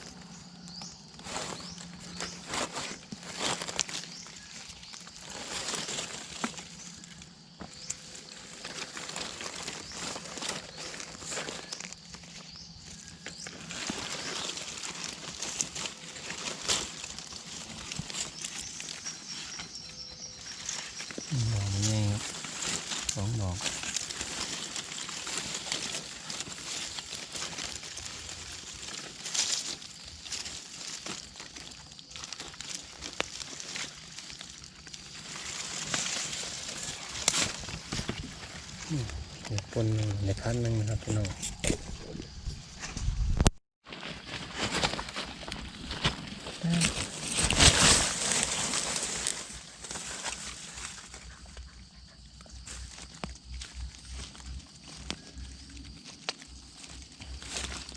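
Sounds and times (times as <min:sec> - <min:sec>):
footsteps crunching through dry leaves: 0:00.0 - 0:43.2, 0:43.8 - 0:57.9.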